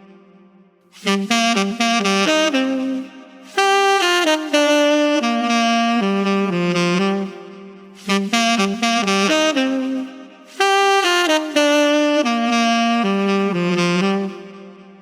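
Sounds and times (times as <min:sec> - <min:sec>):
solo saxophone melody: 0:00.0 - 0:15.0.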